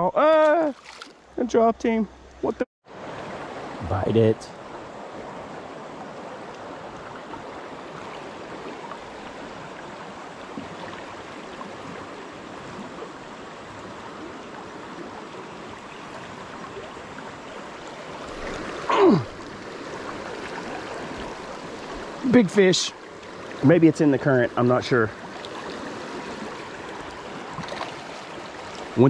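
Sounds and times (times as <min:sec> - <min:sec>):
creek water running: 0:00.0 - 0:29.0.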